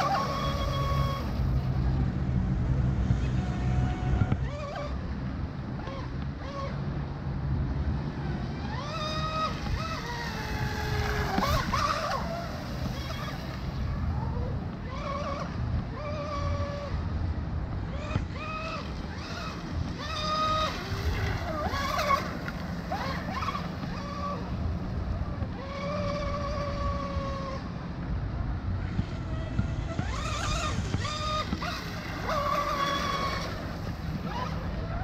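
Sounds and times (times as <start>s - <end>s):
whining boat motor: 0.0s - 35.0s.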